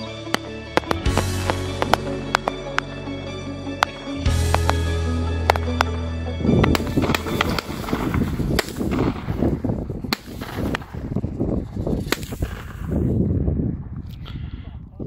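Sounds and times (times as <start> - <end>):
fireworks bangs and crackles: 0.0 - 3.2, 3.8 - 6.0, 6.6 - 14.0.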